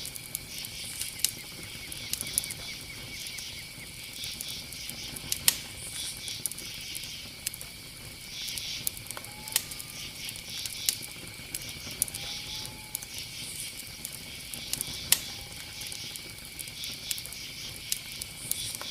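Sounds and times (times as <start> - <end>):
bonfire crackling: 0.0 - 18.9
fire pops: 0.0 - 18.9.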